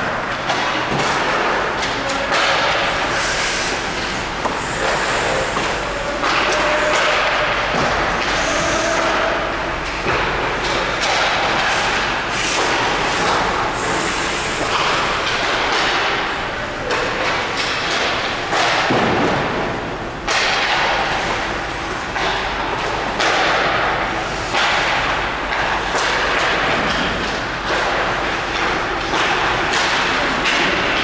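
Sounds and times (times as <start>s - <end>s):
hockey pucks thudding on pads: 0.3s - 3.3s, 3.9s - 14.0s, 14.6s - 21.4s, 22.2s - 31.0s
ice rink din: 0.3s - 21.4s, 22.1s - 31.0s.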